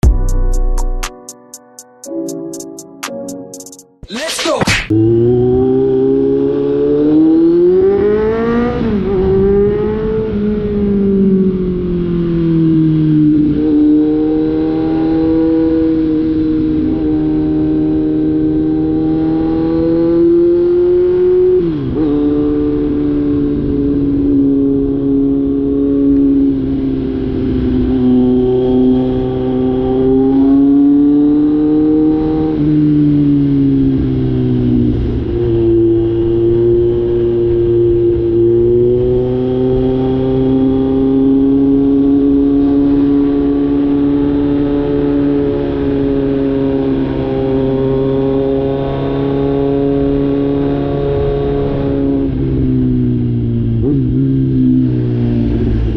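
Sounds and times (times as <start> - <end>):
motorcycle engine running loud: 4.9 - 55.9.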